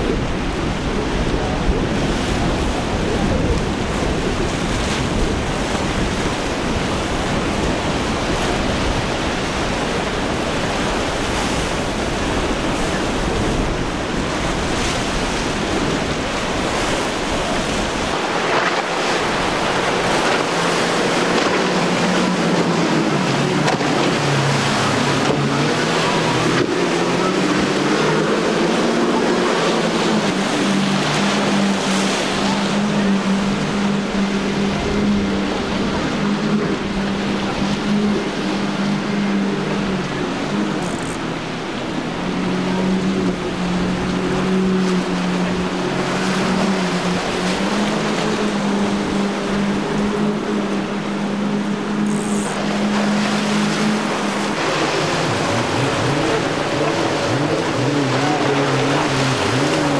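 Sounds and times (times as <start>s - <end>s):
outboard motors humming: 0.0s - 59.9s
rough surf: 0.0s - 59.9s
wind rumbling on microphone: 0.0s - 59.9s.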